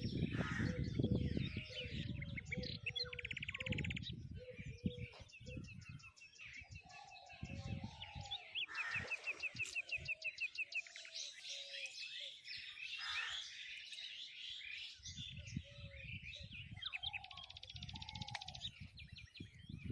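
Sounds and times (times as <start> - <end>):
birds singing and calling: 0.0 - 19.9.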